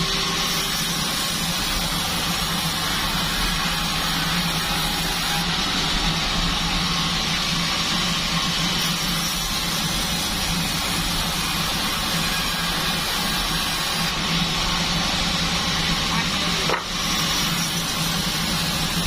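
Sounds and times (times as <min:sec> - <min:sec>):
bandsaw running: 0:00.0 - 0:19.0.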